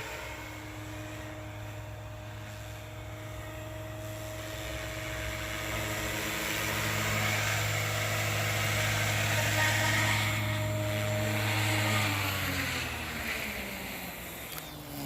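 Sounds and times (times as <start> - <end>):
rc helicopter rotor humming: 0.0 - 15.0.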